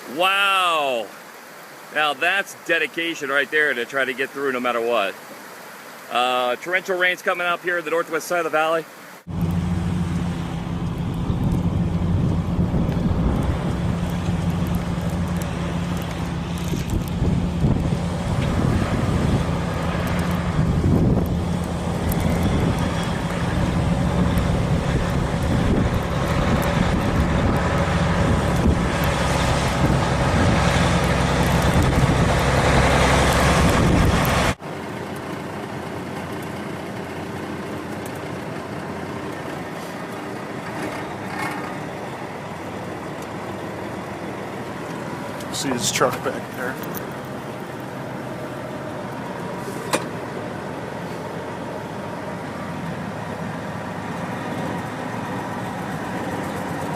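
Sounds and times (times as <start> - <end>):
quiet vehicle hum: 9.2 - 56.9
heavy truck engine running: 9.3 - 56.9.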